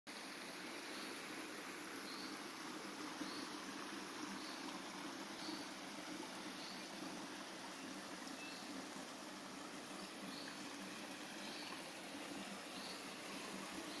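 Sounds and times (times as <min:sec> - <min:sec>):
background hiss: 0:00.1 - 0:14.0.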